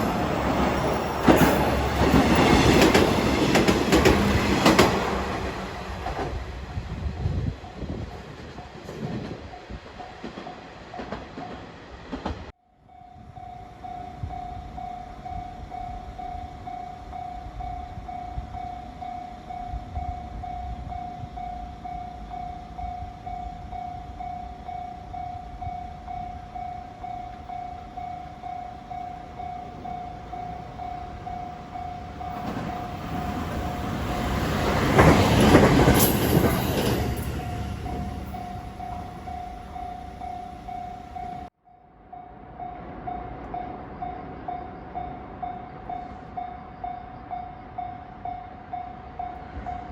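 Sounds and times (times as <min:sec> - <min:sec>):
electric train passing: 0:00.0 - 0:49.9.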